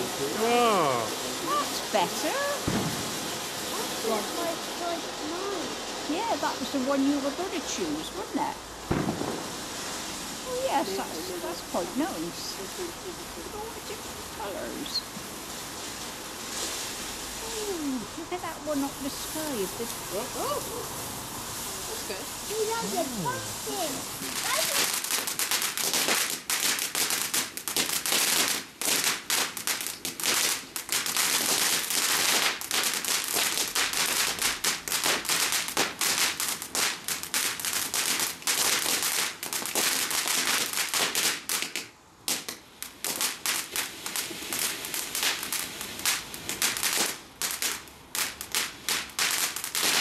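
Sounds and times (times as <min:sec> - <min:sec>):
fountain fireworks crackling: 0:00.0 - 0:50.0.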